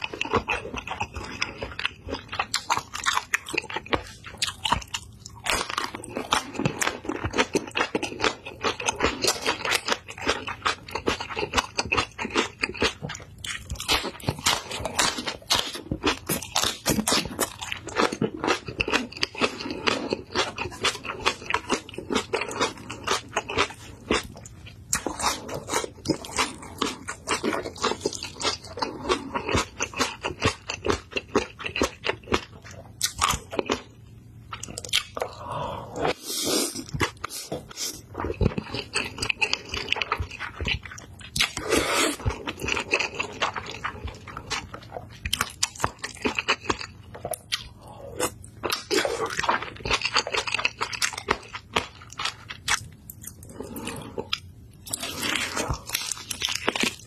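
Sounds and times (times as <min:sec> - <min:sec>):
crunchy chewing: 0:00.0 - 0:33.9, 0:36.8 - 0:57.0.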